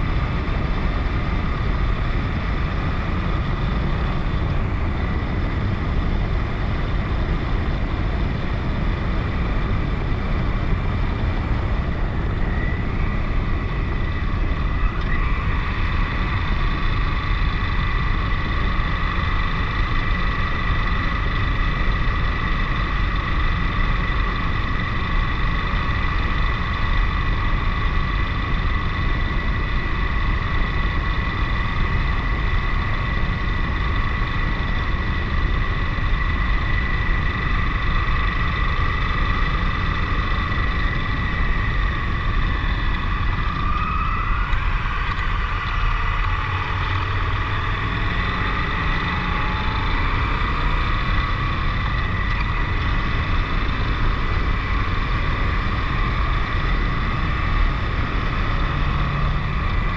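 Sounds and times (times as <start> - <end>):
motorcycle engine whine: 0.0 - 59.9
wind rumble on microphone: 0.0 - 59.9.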